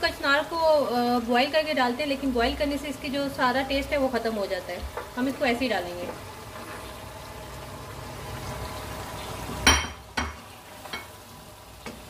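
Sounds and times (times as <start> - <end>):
masala sizzling in a pan: 0.0 - 12.0.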